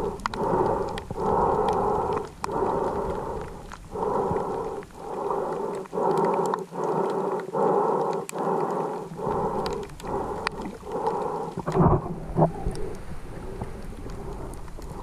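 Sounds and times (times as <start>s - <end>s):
swimmer breathing hard: 0.0s - 12.1s
faint sharp clicks: 0.0s - 15.0s.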